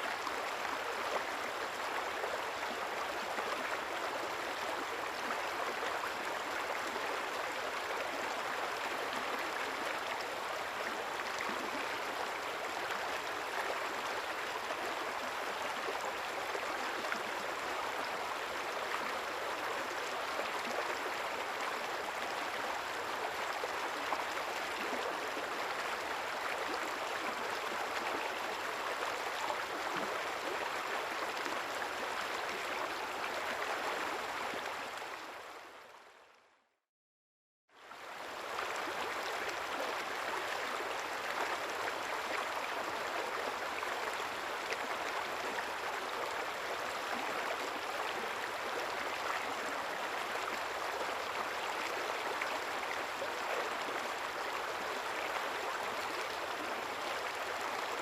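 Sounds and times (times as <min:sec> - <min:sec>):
river water rushing and babbling: 0:00.0 - 0:36.4, 0:37.8 - 0:58.0.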